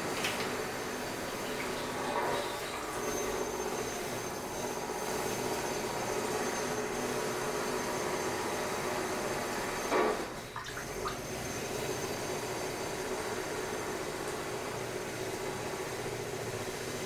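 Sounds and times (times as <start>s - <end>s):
construction machinery droning: 0.0s - 17.0s.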